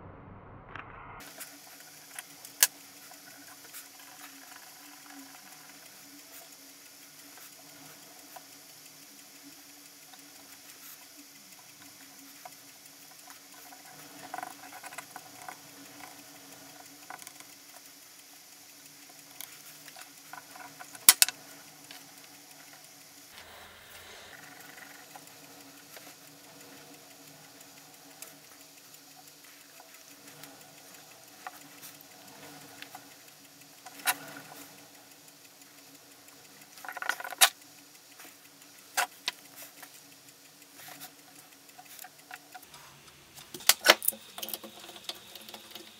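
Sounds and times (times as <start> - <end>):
sharp click: 0.8 - 42.8, 43.4 - 45.9
faint steady hum: 1.2 - 45.9.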